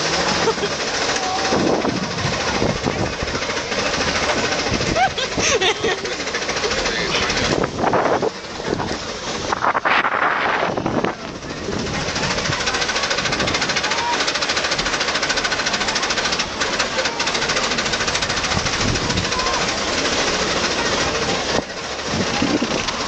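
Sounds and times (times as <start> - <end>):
riders talking and shouting: 0.0 - 23.0
roller coaster clacking on track: 0.0 - 23.0.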